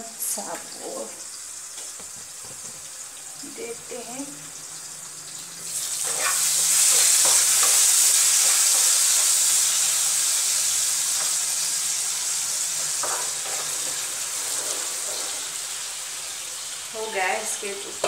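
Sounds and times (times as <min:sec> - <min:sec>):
food frying in oil: 0:00.0 - 0:18.0.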